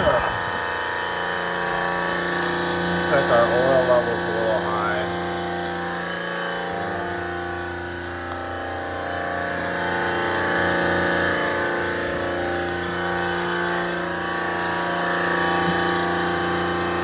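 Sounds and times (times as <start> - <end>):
refrigeration compressor humming: 0.0 - 17.0.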